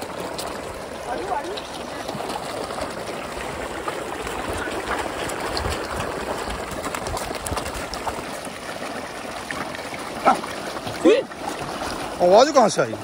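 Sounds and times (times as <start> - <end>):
fish splashing at water surface: 0.0 - 13.0.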